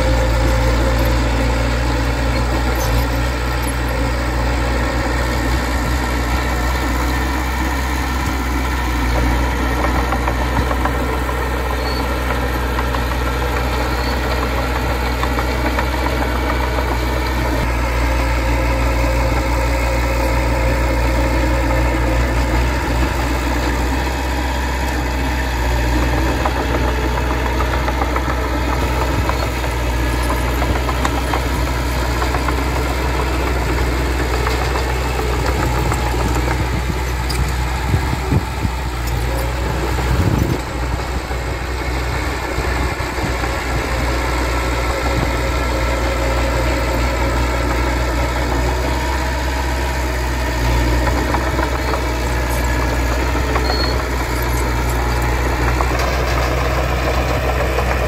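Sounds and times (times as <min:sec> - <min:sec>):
heavy machinery diesel engine running: 0:00.0 - 0:58.0.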